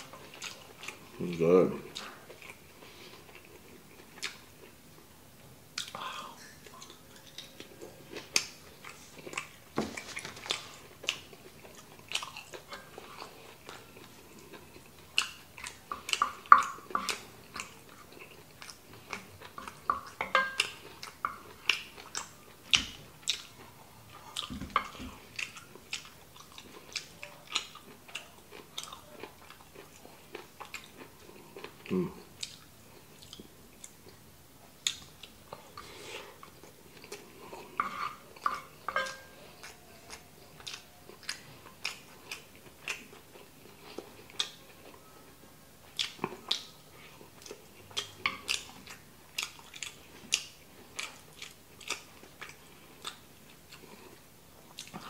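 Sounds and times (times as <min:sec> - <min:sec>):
man chewing food: 0:00.0 - 0:55.0.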